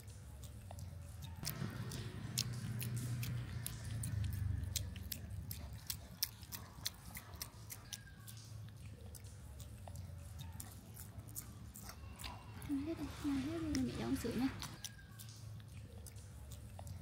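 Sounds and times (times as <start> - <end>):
monkey chewing with wet clicks: 0.0 - 17.0.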